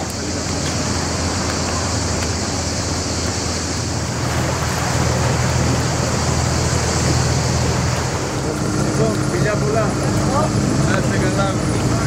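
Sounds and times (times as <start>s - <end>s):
engine humming: 0.0s - 12.0s
lapping water: 0.0s - 12.0s
wind hiss: 0.0s - 12.0s.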